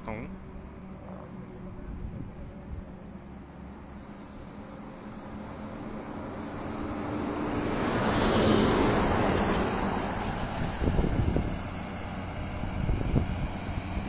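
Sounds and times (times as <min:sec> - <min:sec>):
vehicle passing on highway: 0:00.3 - 0:14.0.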